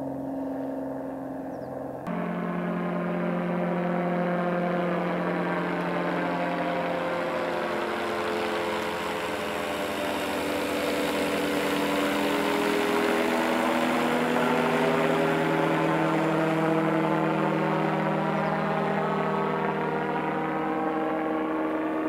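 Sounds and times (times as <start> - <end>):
light airplane engine and propeller drone: 0.0 - 22.0.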